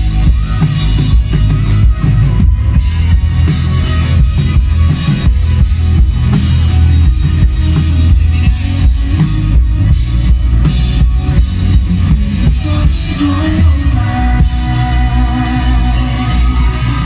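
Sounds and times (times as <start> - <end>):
drum kit beat: 0.0 - 17.0
heavy bass: 0.0 - 17.0
live rock band playing: 0.0 - 17.0.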